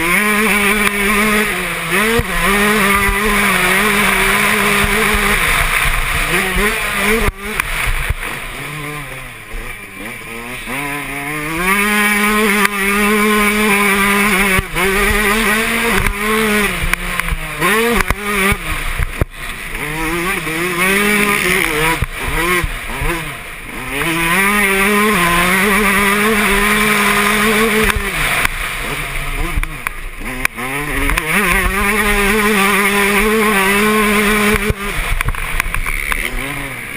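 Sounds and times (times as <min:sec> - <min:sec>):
two-stroke motocross engine revving: 0:00.0 - 0:36.9.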